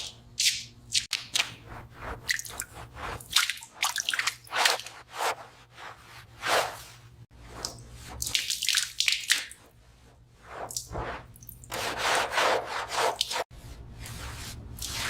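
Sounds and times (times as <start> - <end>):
rubbing strokes on a surface: 1.5 - 8.3, 9.7 - 15.0.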